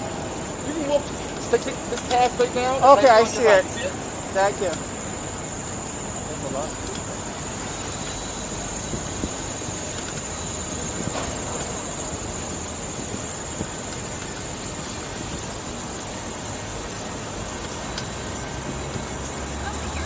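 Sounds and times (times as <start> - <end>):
bicycle rolling on pavement: 0.0 - 20.0
wind: 0.0 - 20.0.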